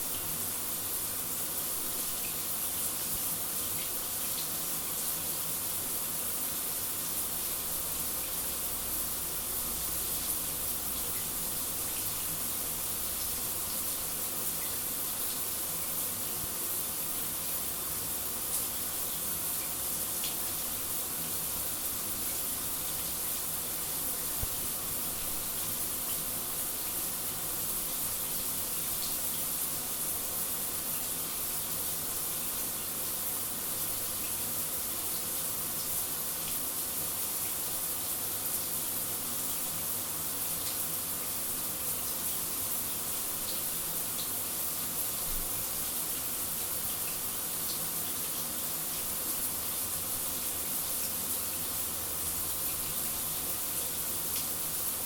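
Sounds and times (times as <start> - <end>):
shower water spray hissing: 0.0 - 55.0.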